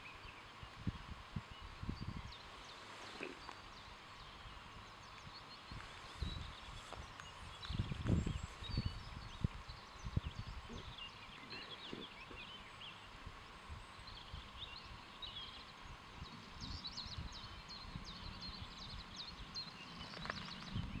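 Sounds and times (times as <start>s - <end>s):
small birds chirping: 0.0s - 21.0s
wind rumbling on microphone: 0.0s - 21.0s.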